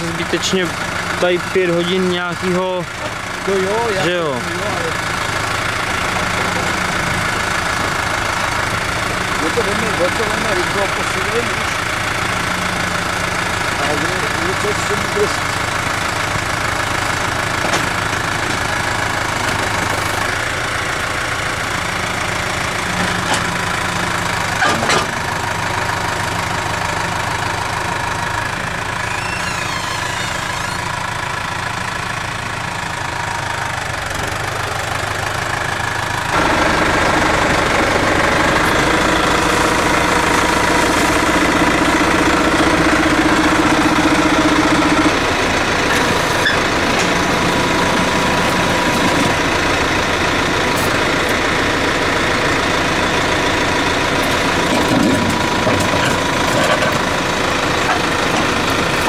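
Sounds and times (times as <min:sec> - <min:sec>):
machine engine running: 0:00.0 - 0:59.0.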